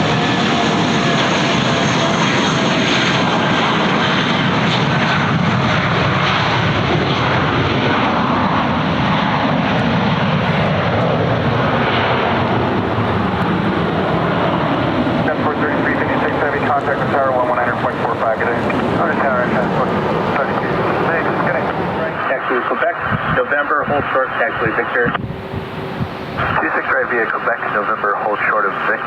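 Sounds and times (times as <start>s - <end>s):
airliner engines running: 0.0s - 29.0s.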